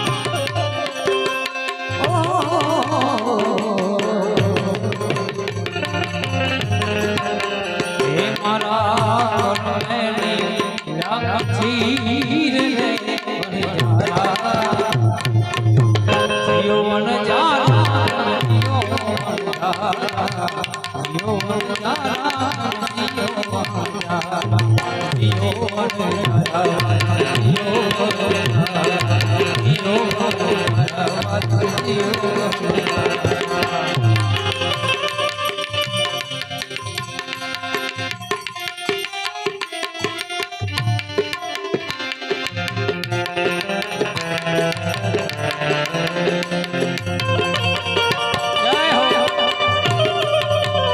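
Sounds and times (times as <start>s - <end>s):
hand drum rhythm: 0.0s - 16.3s, 17.6s - 50.9s
harmonium melody: 0.0s - 50.9s.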